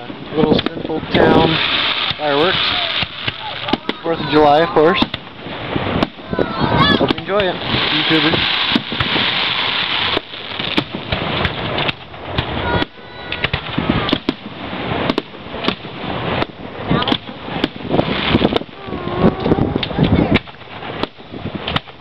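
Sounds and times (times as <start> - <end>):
continuous noisy background: 0.0 - 21.9
firework shells bursting: 0.0 - 22.0.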